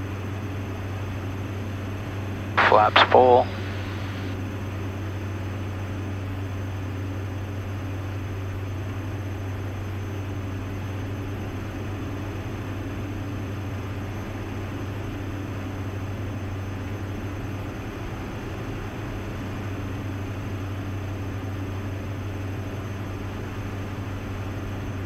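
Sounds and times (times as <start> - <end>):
aircraft engines and propellers drone: 0.0 - 25.0.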